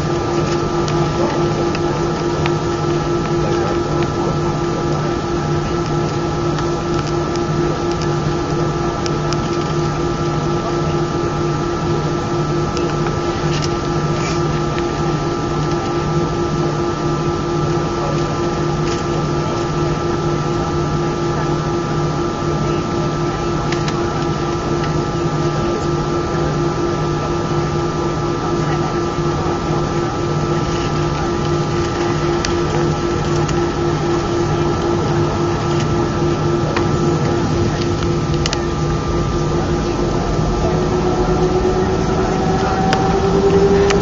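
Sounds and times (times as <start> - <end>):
jet engines idling: 0.0 - 44.0
pulsing low hum: 0.0 - 44.0
steady whining tones: 0.0 - 44.0.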